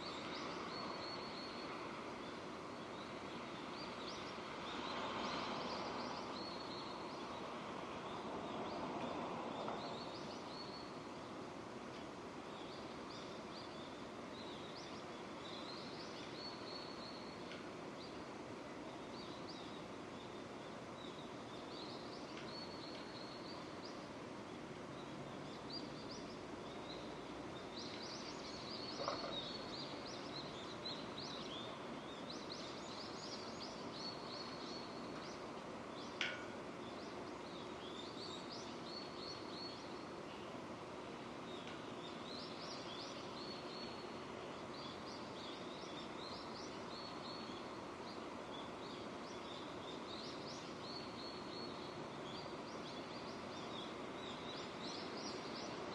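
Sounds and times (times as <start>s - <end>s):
small birds chirping: 0.0s - 11.5s, 12.4s - 55.9s
steady rain falling: 0.0s - 55.9s.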